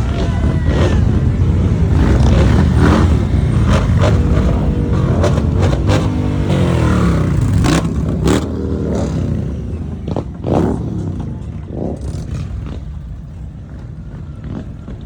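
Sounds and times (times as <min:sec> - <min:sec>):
motorcycle engines revving past: 0:00.0 - 0:15.0.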